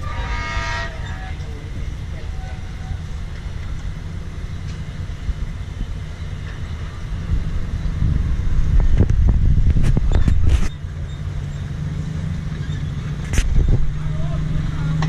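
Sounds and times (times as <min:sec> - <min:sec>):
diesel locomotive engine rumbling: 0:00.0 - 0:15.0.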